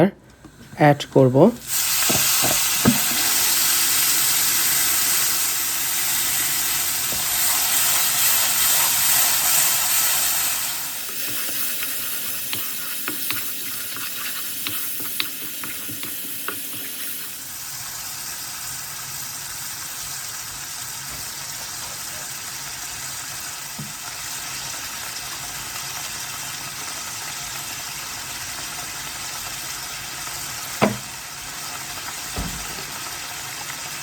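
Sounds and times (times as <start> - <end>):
spices sizzling in hot oil: 1.6 - 34.0.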